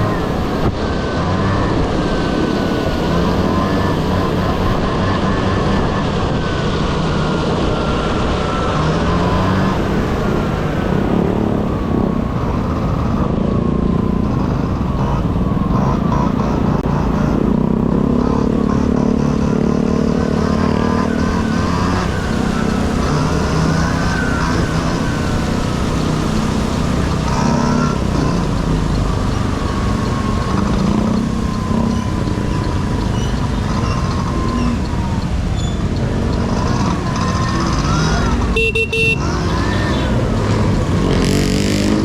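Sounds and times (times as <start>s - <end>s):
scooter engine revving: 0.0s - 42.0s.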